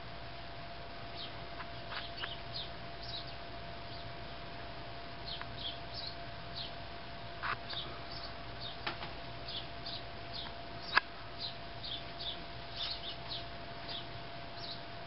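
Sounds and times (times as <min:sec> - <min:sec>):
faint hum and hiss: 0:00.0 - 0:15.0
birds chirping: 0:01.0 - 0:04.5, 0:05.2 - 0:15.0.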